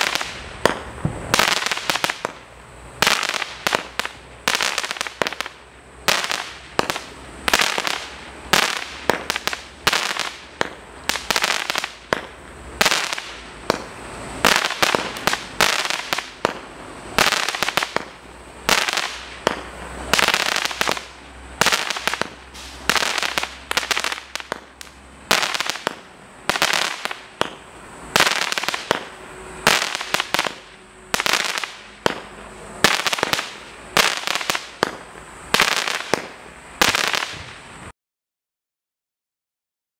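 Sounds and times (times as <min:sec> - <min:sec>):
firework bangs: 0:00.0 - 0:37.9.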